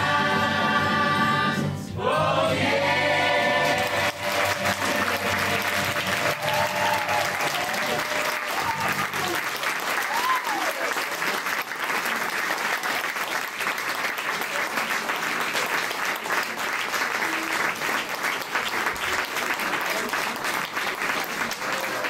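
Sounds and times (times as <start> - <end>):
audience applauding: 3.2 - 22.0.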